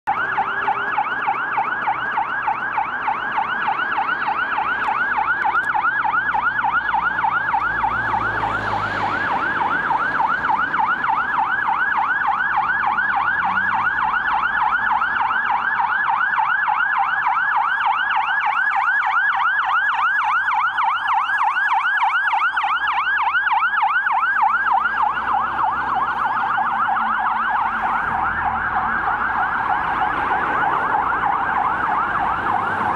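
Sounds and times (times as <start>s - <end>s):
fire engine siren yelping: 0.1s - 32.9s.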